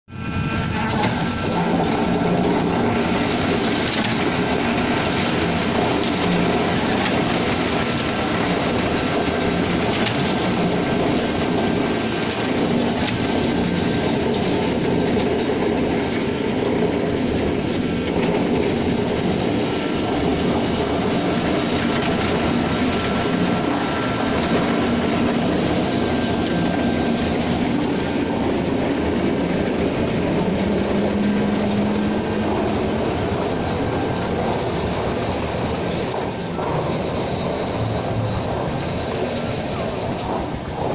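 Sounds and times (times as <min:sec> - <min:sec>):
concrete pump mechanical clatter: 0:00.1 - 0:40.9
steady hum: 0:00.1 - 0:40.9.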